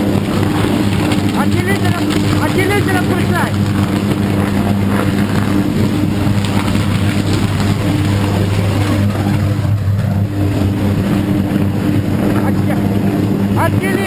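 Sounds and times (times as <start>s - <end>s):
electric arc buzzing: 0.0s - 14.0s.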